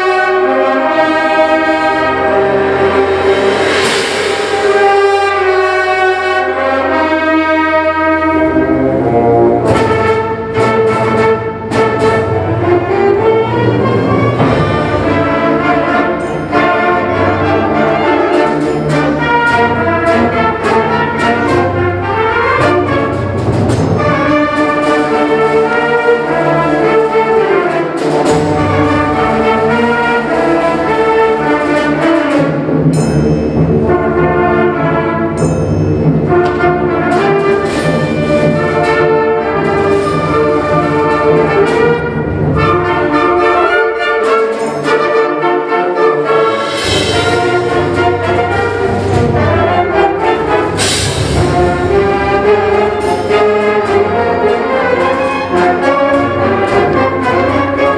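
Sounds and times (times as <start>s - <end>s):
concert band playing: 0.0s - 57.9s
percussion strikes: 0.0s - 57.9s.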